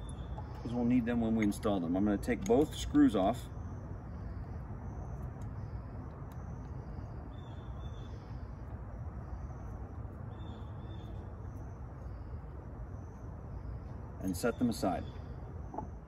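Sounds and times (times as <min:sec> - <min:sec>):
insects chirping: 0:00.0 - 0:16.0
steady low rumble: 0:00.0 - 0:16.0.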